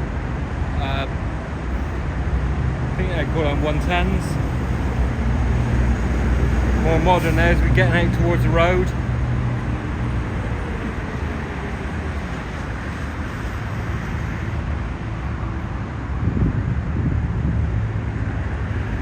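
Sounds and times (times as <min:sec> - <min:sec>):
road traffic noise: 0:00.0 - 0:19.0
vehicle passing with low rumble: 0:00.0 - 0:19.0.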